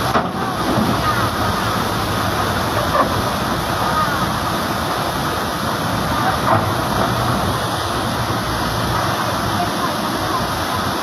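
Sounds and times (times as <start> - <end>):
excavator diesel engine running: 0.0 - 11.0
river water rushing over weir: 0.0 - 11.0.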